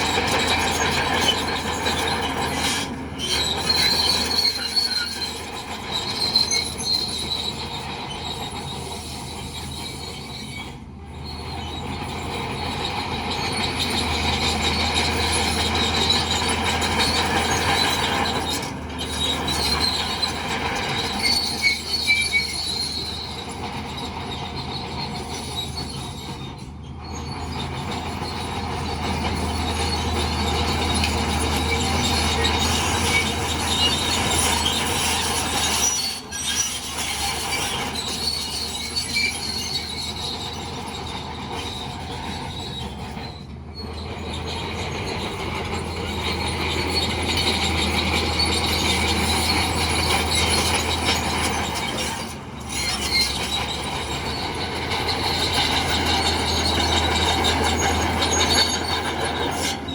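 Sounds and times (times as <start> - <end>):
diesel engine running: 0.0 - 59.9
steel tracks squealing and clattering: 0.0 - 59.9.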